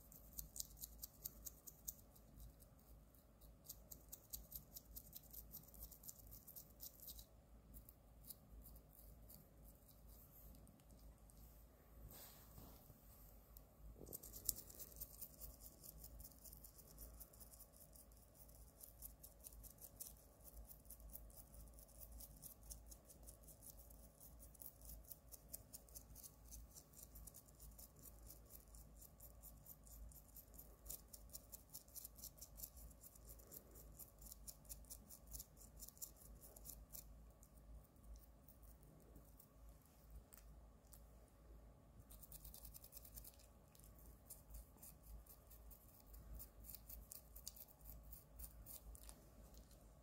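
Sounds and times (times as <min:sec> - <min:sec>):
toothbrush scratchy brushing: 0:00.0 - 0:10.7, 0:14.0 - 0:37.5, 0:42.1 - 0:49.8.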